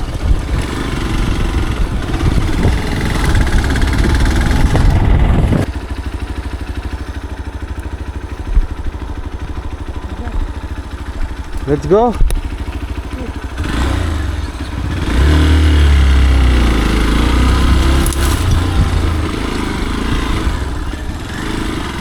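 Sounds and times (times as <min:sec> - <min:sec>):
motorcycle engine: 0:00.0 - 0:22.0
road noise: 0:00.0 - 0:22.0.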